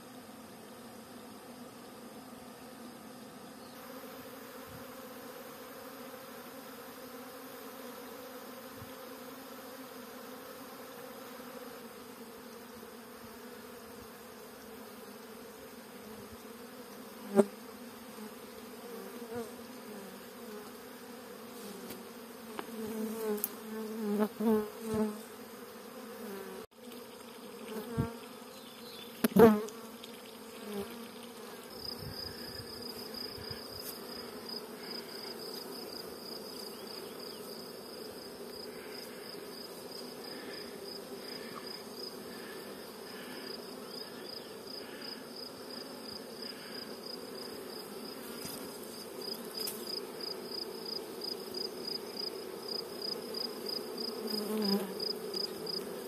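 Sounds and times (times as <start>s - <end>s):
bee swarm humming: 0.0s - 56.0s.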